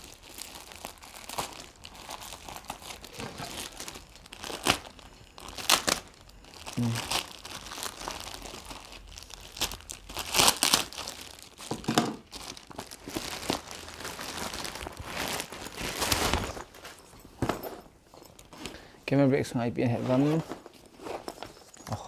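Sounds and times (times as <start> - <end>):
plastic bag crinkling: 0.0 - 17.8.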